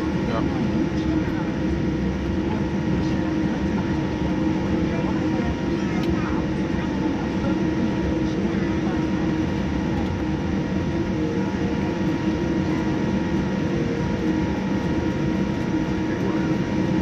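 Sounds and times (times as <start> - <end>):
aircraft cabin engine rumble: 0.0 - 17.0
steady engine tones: 0.0 - 17.0.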